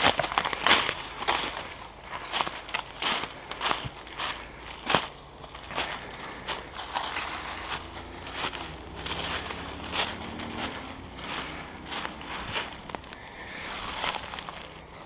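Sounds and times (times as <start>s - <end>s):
footsteps crunching dry leaves: 0.0s - 15.0s
leaves crackling and rustling: 0.0s - 15.0s.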